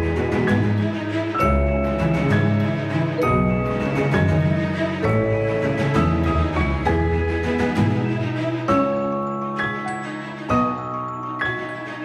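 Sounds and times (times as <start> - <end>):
background music with sustained notes: 0.0 - 12.0.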